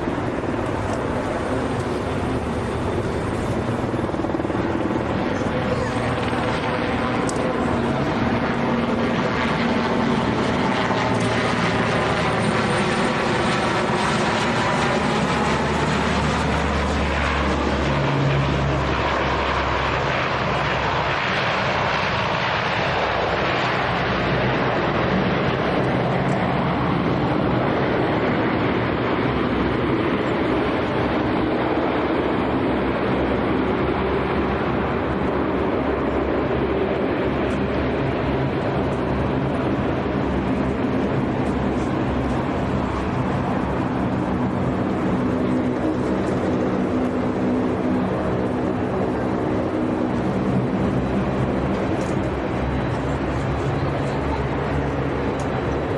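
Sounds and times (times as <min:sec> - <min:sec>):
aircraft engines passing: 0:00.0 - 0:55.9.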